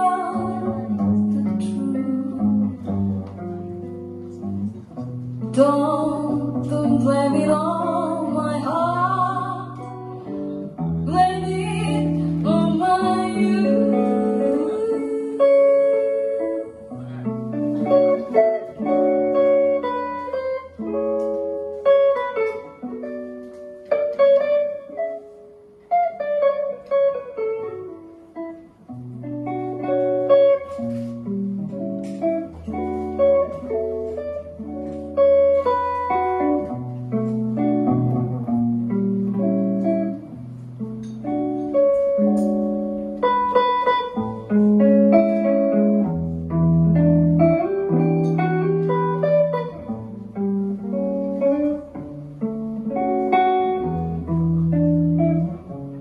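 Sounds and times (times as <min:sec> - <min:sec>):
jazz guitar: 0:00.0 - 0:56.0.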